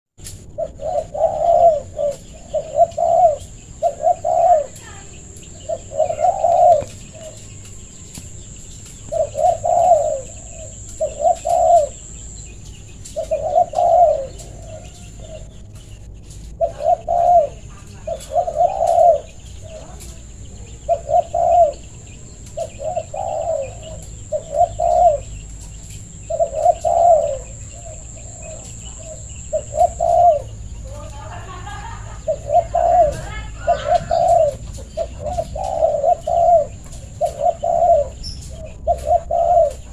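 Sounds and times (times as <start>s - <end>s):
dove cooing: 0.4s - 15.8s, 16.5s - 39.9s.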